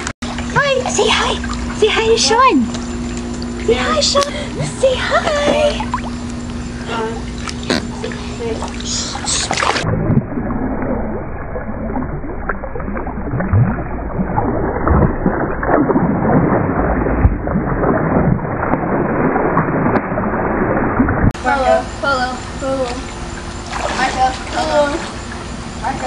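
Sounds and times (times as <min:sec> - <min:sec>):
muffled pool water splashing: 0:00.0 - 0:26.0.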